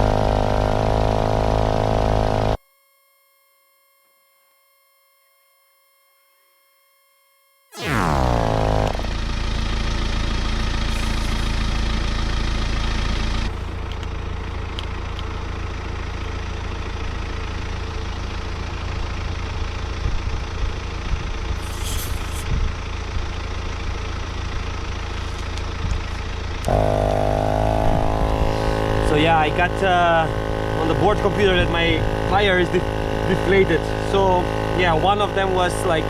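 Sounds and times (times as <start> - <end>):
electric tyre inflator running: 0.0 - 2.6, 7.8 - 20.2, 21.0 - 22.6, 23.2 - 36.0.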